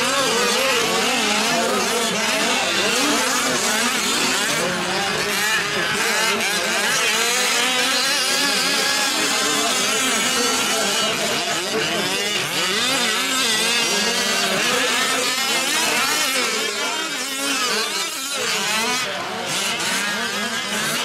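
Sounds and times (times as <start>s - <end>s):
small gas engines revving: 0.0s - 21.0s.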